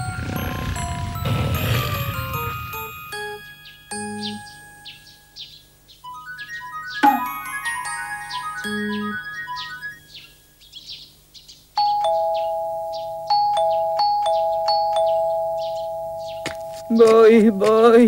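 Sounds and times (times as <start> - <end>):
small birds chirping: 0.0 - 18.0
two-tone doorbell ringing: 0.2 - 10.5, 11.8 - 18.0.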